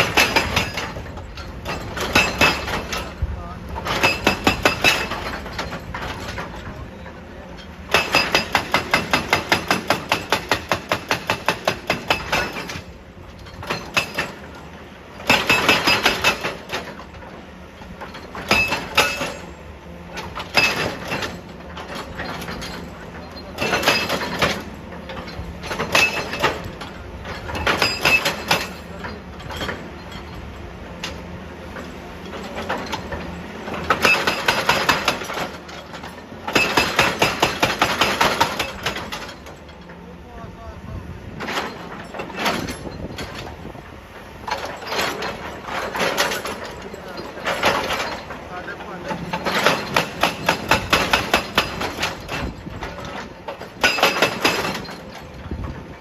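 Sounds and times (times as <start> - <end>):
hydraulic breaker hammering rock: 0.0 - 56.0.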